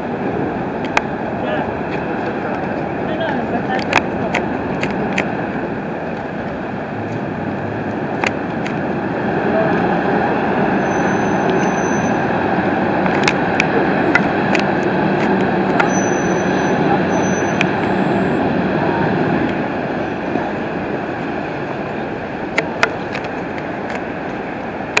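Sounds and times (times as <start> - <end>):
boat engines at speed: 0.0 - 25.0
rushing boat wake: 0.0 - 25.0.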